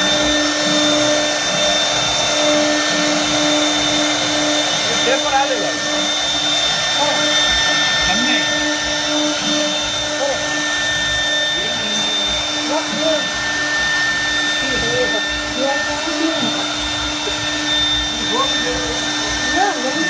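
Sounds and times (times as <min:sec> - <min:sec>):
router bits cutting hiss: 0:00.0 - 0:20.0
wood router spindles whining: 0:00.0 - 0:20.0.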